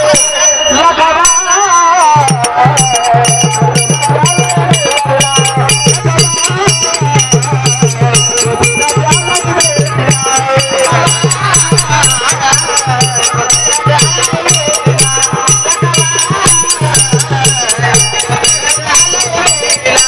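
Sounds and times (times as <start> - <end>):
hand cymbals clashing: 0.0 - 20.0
man singing: 0.0 - 20.0.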